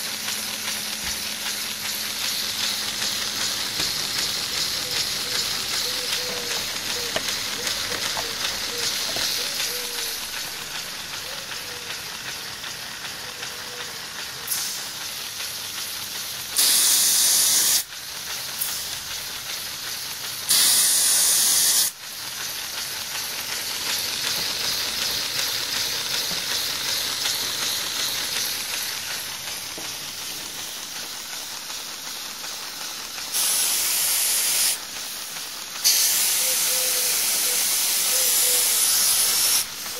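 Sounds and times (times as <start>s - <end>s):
air engine hissing: 0.0s - 39.9s
loud blasts of hissing air: 0.0s - 39.9s.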